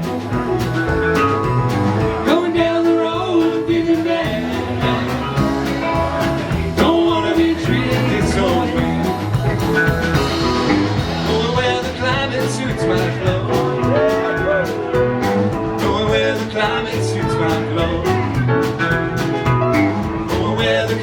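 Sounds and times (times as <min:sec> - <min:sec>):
electric guitar lead with bent notes: 0:00.0 - 0:20.8
live rock band playing: 0:00.0 - 0:21.0.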